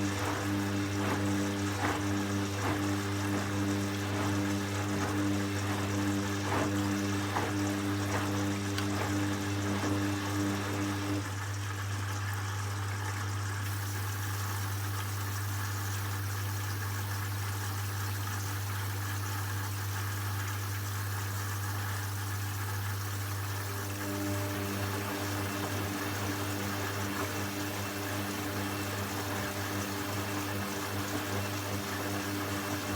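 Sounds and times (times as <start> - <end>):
washing machine drum whirr: 0.0 - 18.4, 22.1 - 32.9.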